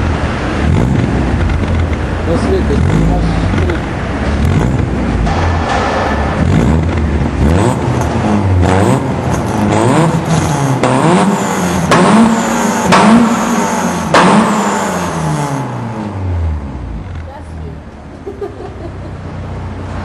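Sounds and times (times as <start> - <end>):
car engine revving: 0.0 - 17.3.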